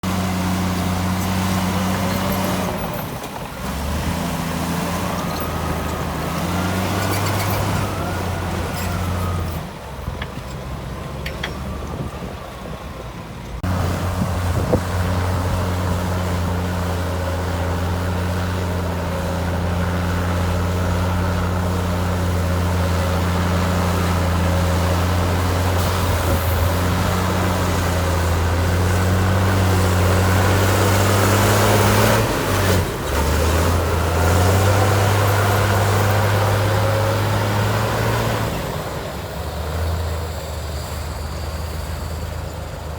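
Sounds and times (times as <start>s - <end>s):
heavy diesel engine droning: 0.0s - 42.9s.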